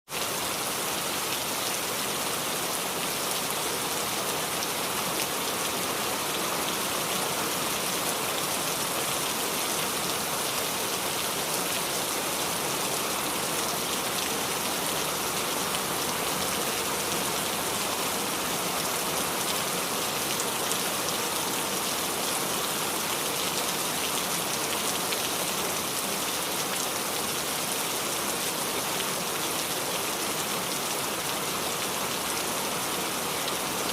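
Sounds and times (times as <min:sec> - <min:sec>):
rain dripping on leaves: 0:00.2 - 0:33.9.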